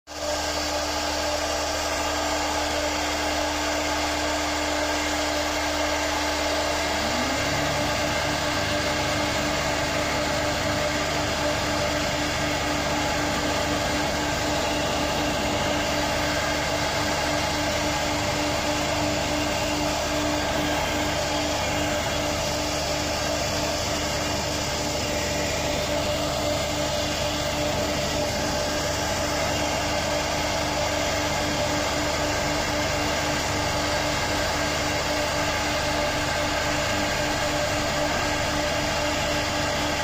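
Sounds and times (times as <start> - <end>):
router spindle carving wood: 0.2 - 40.0
motor spinning up: 2.7 - 40.0.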